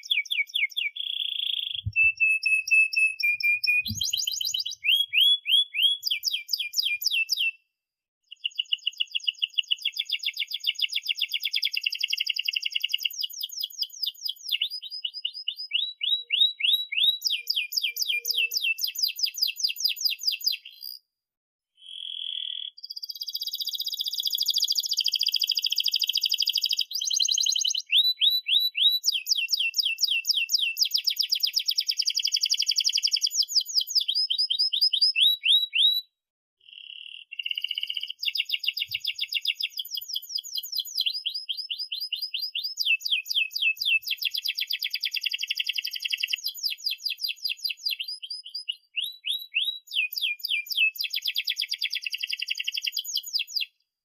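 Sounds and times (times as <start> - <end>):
canary singing trills: 0.0 - 7.6, 8.3 - 21.0, 21.8 - 36.0, 36.6 - 53.8.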